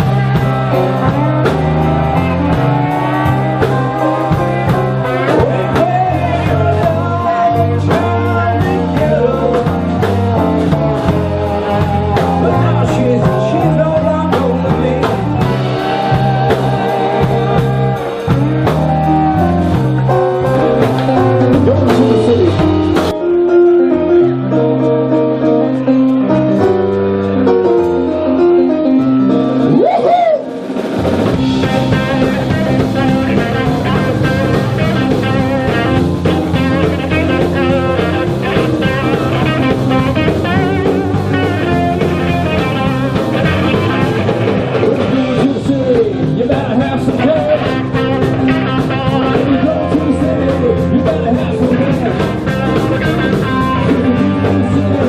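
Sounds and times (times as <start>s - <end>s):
drum kit with cymbals: 0.0s - 23.2s, 29.8s - 55.0s
bass guitar: 0.0s - 55.0s
electric guitar lead lines: 0.0s - 55.0s.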